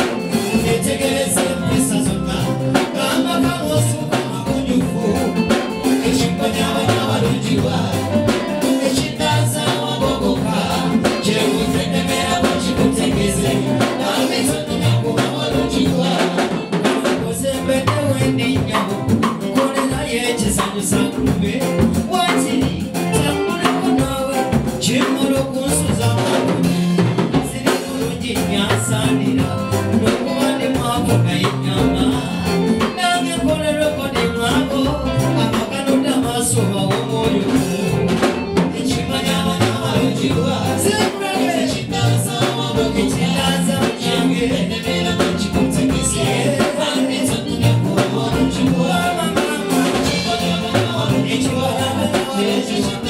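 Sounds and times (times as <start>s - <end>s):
live band playing upbeat groove: 0.0s - 53.0s
man singing into microphone: 0.0s - 53.0s.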